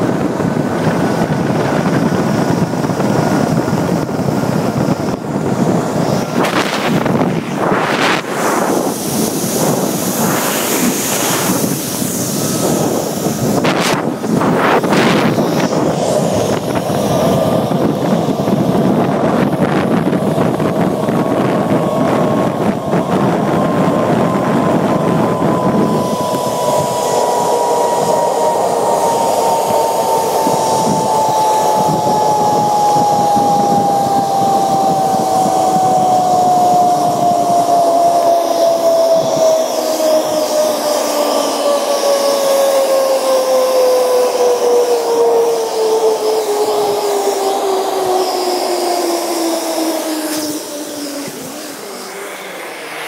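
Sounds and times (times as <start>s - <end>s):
trolley whine: 0.0s - 53.0s
wind rushing over microphone: 0.0s - 53.0s
zip-line pulleys running on cable: 0.0s - 53.0s.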